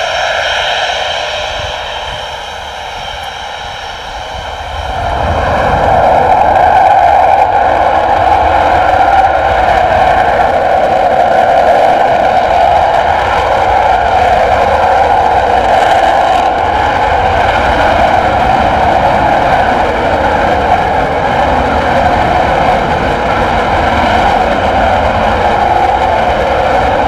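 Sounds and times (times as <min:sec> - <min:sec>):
jet engine roaring: 0:00.0 - 0:27.0.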